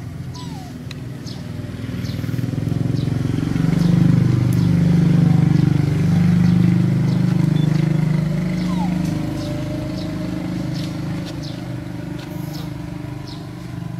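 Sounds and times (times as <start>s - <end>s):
engine running: 0.0s - 13.9s.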